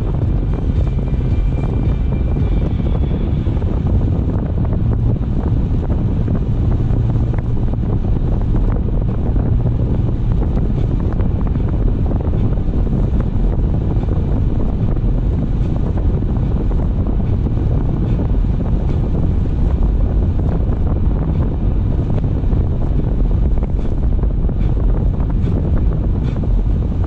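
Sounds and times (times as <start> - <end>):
car wind and road noise: 0.0 - 27.0.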